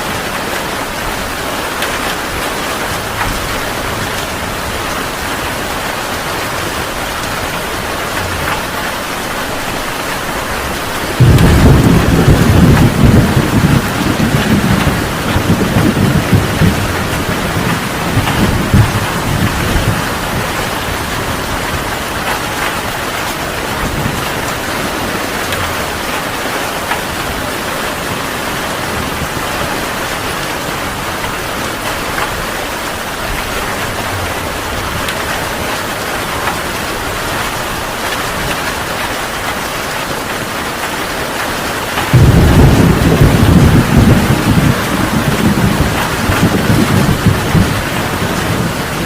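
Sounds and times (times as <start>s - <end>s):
heavy rain: 0.0s - 49.0s
thunder rumbling: 0.4s - 38.6s, 41.9s - 49.0s.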